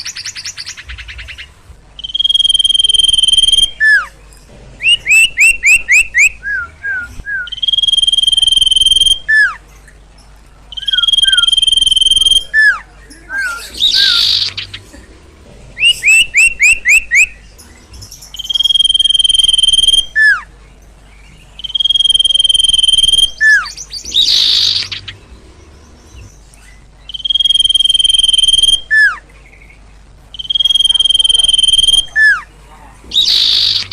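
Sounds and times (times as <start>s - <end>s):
bird whistled calls: 0.0s - 4.2s, 4.8s - 9.6s, 10.7s - 14.8s, 15.8s - 20.5s, 21.6s - 25.2s, 26.1s - 29.3s, 30.3s - 32.5s, 33.1s - 33.9s.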